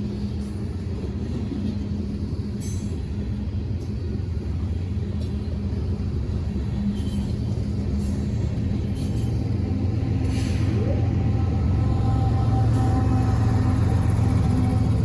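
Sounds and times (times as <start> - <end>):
constant low hum: 0.0 - 15.0
train rumbling: 0.0 - 15.0.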